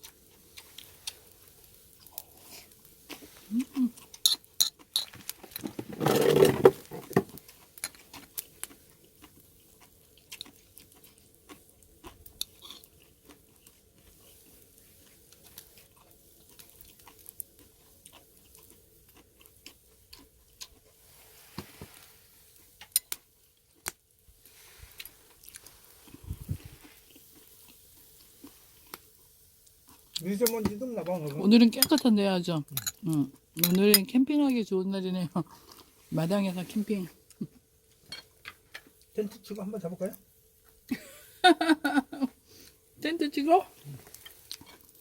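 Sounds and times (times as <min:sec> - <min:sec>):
people chewing crunchy food: 0:00.0 - 0:34.6, 0:35.2 - 0:43.0, 0:43.6 - 0:45.0.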